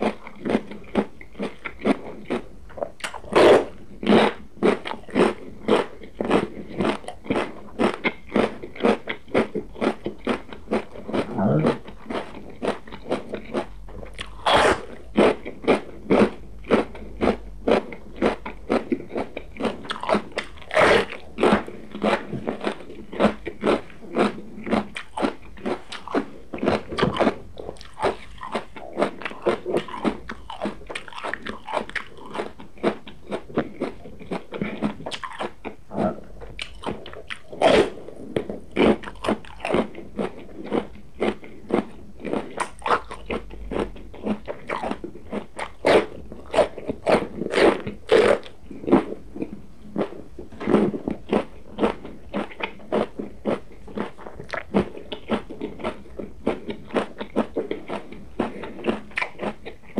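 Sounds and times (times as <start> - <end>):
crunchy chewing of raw pepper: 0.0 - 59.9.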